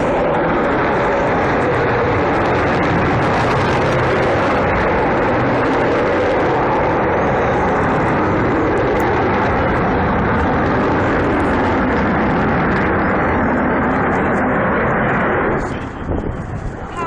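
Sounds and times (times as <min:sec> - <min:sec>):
jet bomber flying: 0:00.0 - 0:17.0.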